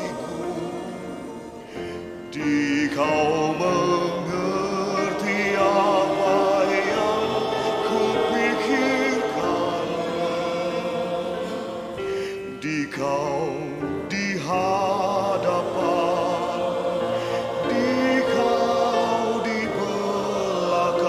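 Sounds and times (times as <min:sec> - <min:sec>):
mixed choir singing: 0:00.0 - 0:21.0.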